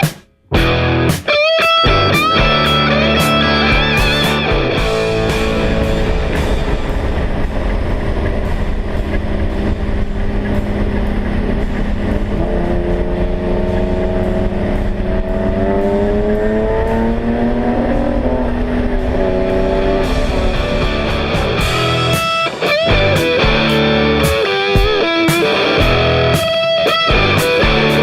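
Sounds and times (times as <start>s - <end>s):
car engine accelerating hard: 1.9s - 28.0s.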